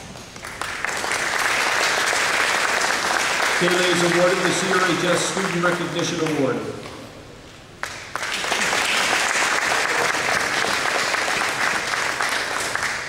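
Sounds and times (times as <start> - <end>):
audience applauding: 0.0 - 6.5, 7.8 - 13.0.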